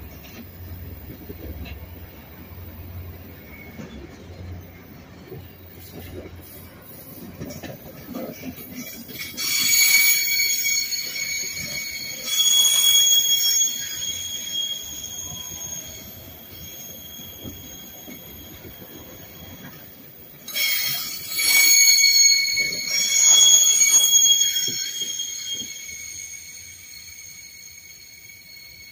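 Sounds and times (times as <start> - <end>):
train rumble: 0.0 - 28.9
train wheels squealing: 0.0 - 28.9.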